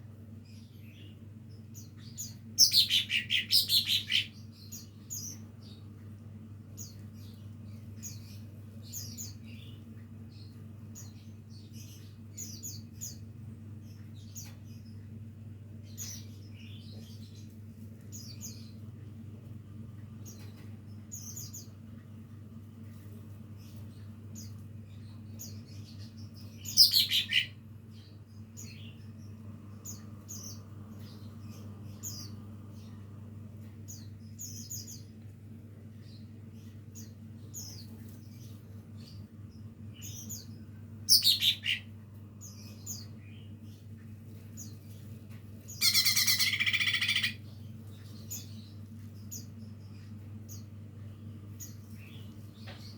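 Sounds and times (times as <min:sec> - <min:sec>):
steady low hum: 0:00.0 - 0:52.9
bird chirps and twitters: 0:00.4 - 0:18.9, 0:23.5 - 0:35.2, 0:35.9 - 0:52.9.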